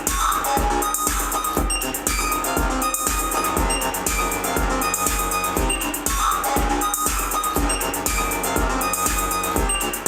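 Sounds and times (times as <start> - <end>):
drum machine kick: 0.0 - 10.0
synth looping pattern: 0.0 - 10.0.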